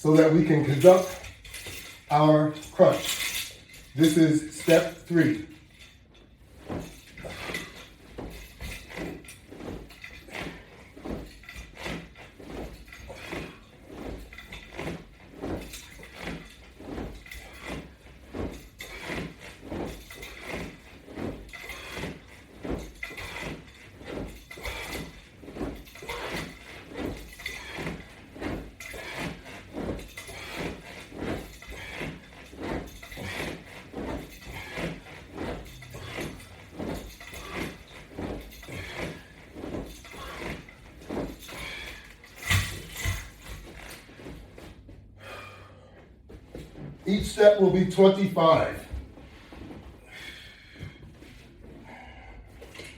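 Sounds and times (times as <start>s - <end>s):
rhythmic exercise pulses: 0.0s - 45.7s, 46.6s - 52.9s.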